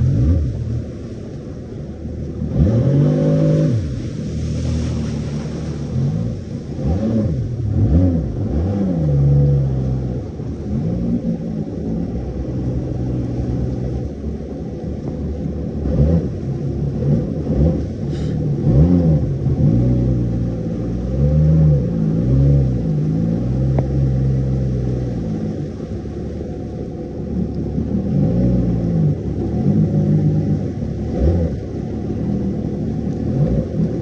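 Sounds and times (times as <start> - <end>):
jet ski engine revving: 0.0 - 34.0.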